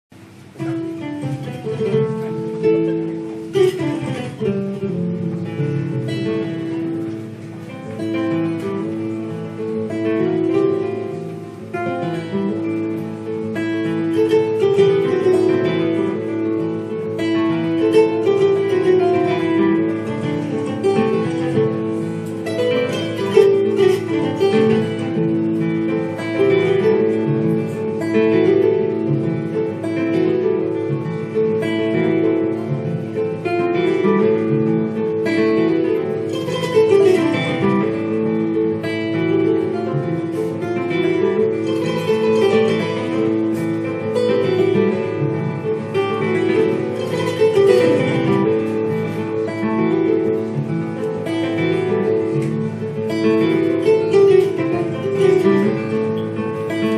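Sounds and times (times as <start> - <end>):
acoustic guitar: 0.0 - 56.9
kora plucked melody: 0.1 - 56.9.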